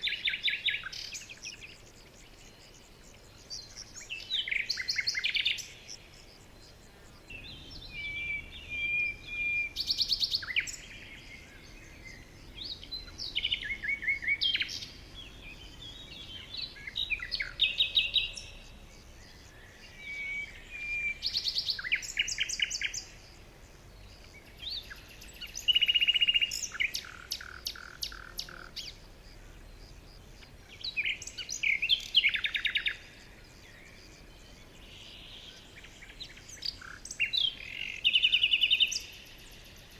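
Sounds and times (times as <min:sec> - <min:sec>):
faint steady background hiss: 0:00.0 - 0:39.9
songbirds singing: 0:00.0 - 0:39.9.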